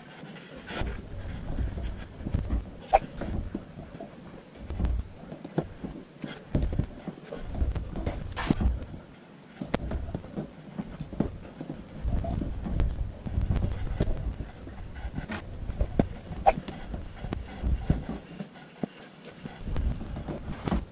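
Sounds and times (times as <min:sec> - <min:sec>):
low thumps: 0:00.7 - 0:03.9, 0:04.6 - 0:09.0, 0:09.7 - 0:18.3, 0:19.5 - 0:20.9.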